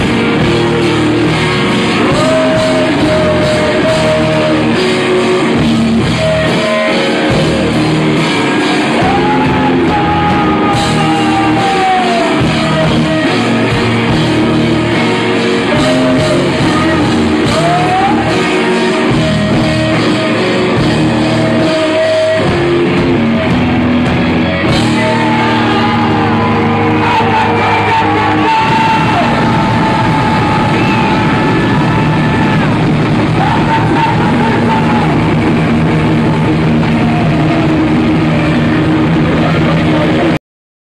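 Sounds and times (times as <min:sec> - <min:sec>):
live rock band playing: 0:00.0 - 0:40.4
person singing: 0:00.0 - 0:40.4.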